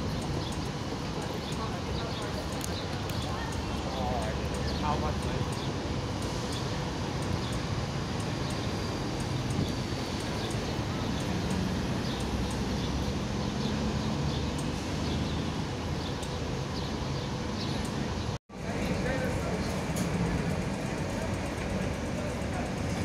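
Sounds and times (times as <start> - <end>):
low traffic rumble: 0.0 - 23.0
tram: 0.0 - 23.0.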